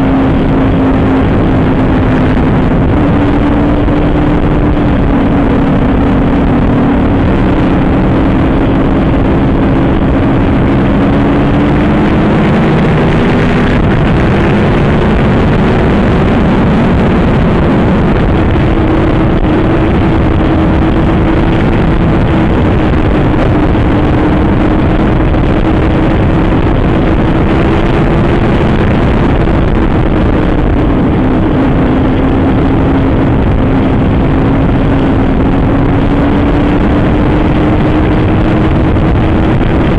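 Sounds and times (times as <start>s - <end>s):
motorcycle engine running hard: 0.0s - 39.9s
wind rushing: 0.0s - 39.9s.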